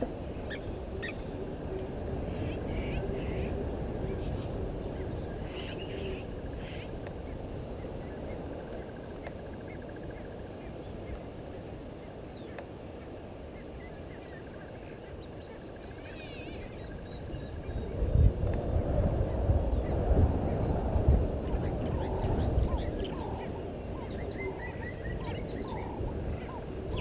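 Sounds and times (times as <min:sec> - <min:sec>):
steady low background noise: 0:00.0 - 0:27.0.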